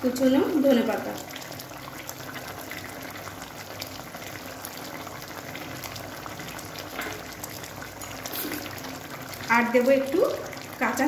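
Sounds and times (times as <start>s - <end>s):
curry bubbling with small pops: 0.0s - 11.0s.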